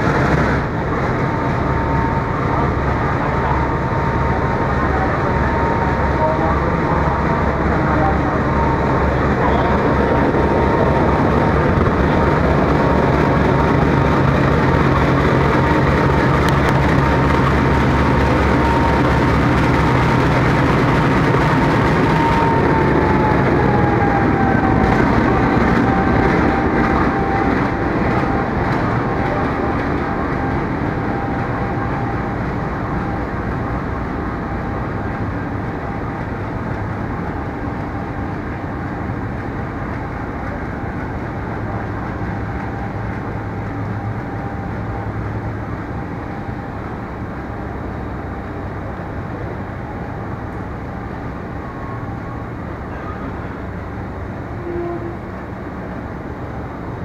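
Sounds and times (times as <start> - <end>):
diesel locomotive engine: 0.0 - 57.0
train rolling rumble: 0.0 - 57.0.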